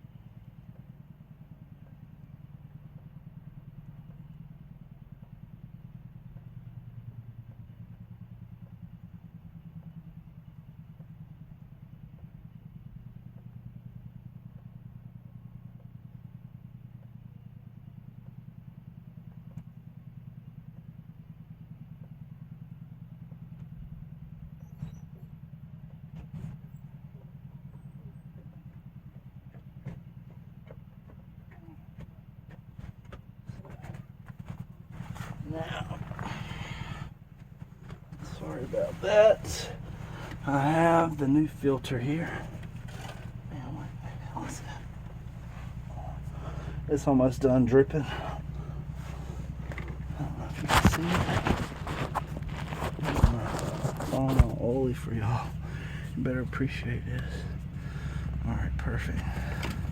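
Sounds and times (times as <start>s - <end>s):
low pulsing mechanical hum: 0.0s - 59.9s.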